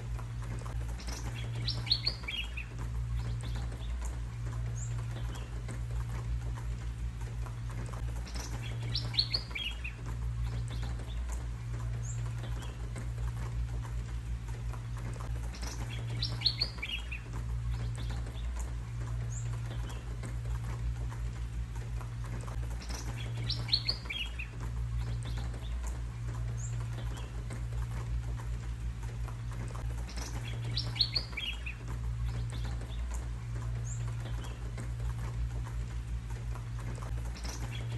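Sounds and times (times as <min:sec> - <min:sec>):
songbird chirping: 0:00.0 - 0:37.9
steady low rumble: 0:00.0 - 0:37.9.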